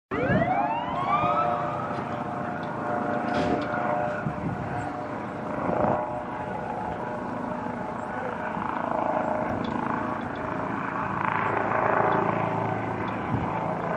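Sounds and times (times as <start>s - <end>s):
helicopter rotor beating: 0.1s - 13.9s
turbine whining: 0.1s - 13.9s.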